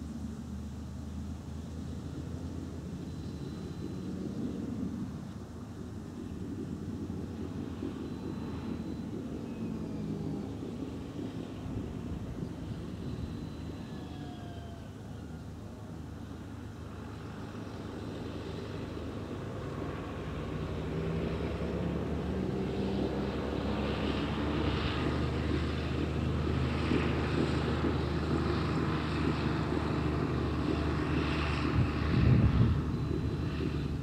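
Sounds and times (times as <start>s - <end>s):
engine drone: 0.0s - 34.0s.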